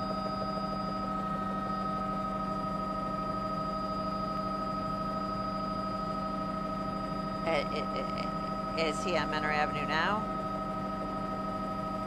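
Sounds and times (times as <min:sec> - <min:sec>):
helicopter cabin drone: 0:00.0 - 0:12.0
steady whining tones: 0:00.0 - 0:12.0.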